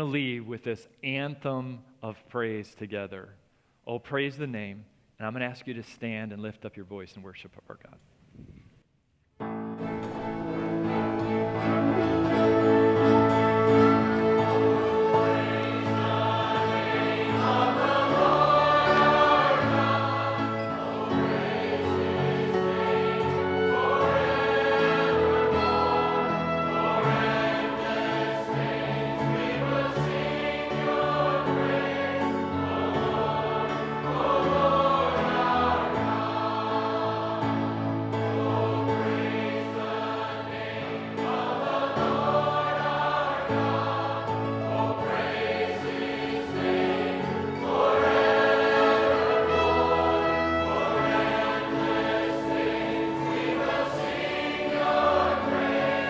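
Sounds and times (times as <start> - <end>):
instrumental accompaniment: 9.4 - 56.0
choir and congregation singing: 9.8 - 56.0.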